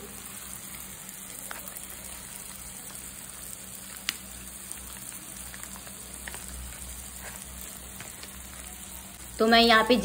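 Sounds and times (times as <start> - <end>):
food sizzling in a pan: 0.0 - 10.0
small crackles: 0.2 - 9.3.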